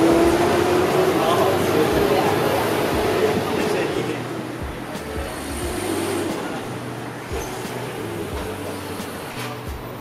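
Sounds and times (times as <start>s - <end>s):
faint voices: 0.0s - 10.0s
traffic passing: 0.0s - 10.0s.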